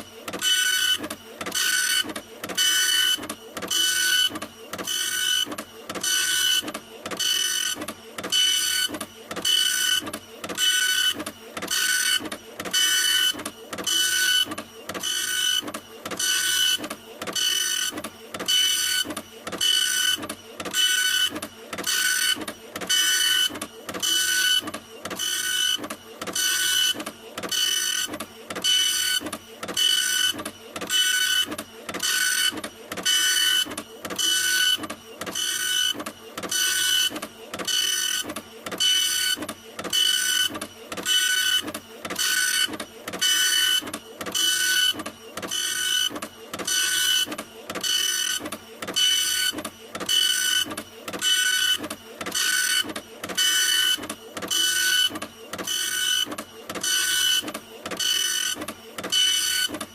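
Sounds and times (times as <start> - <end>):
printer whirring: 0.0 - 59.9.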